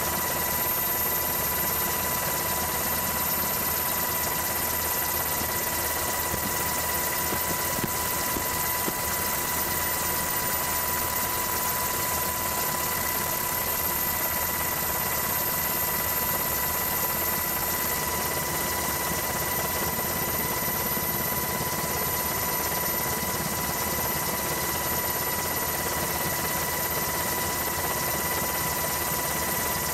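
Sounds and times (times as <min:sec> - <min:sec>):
engine drone with high whine: 0:00.0 - 0:27.0.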